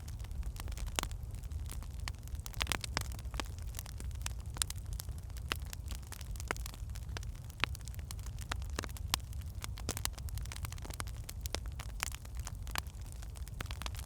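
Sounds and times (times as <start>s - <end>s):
fire pops and snaps: 0.0s - 14.0s
low rumble of flames: 0.0s - 14.0s.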